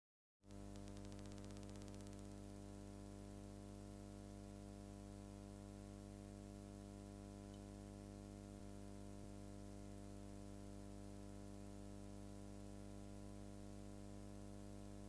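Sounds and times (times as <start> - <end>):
faint electrical hum with hiss: 0.5 - 15.0.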